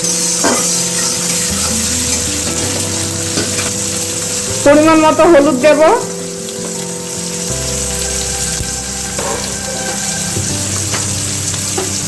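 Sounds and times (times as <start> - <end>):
onions and tomatoes sizzling in oil: 0.0 - 12.0.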